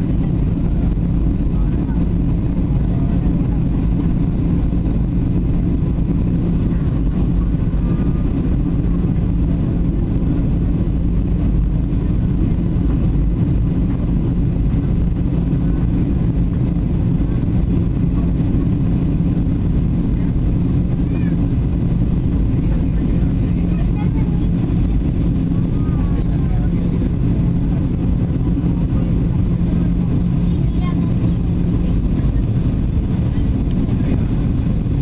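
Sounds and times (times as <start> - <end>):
airplane cabin engine drone: 0.0 - 35.0.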